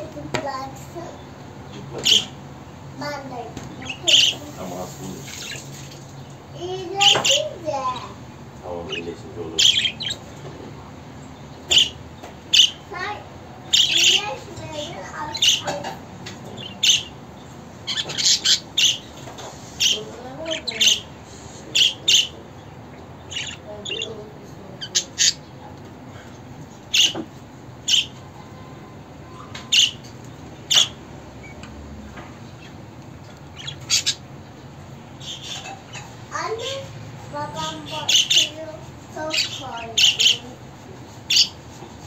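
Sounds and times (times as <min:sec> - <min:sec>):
budgerigars squawking and chirping: 0:01.6 - 0:02.5, 0:03.7 - 0:05.8, 0:06.8 - 0:25.6, 0:26.2 - 0:28.2, 0:29.3 - 0:40.6, 0:41.2 - 0:41.6.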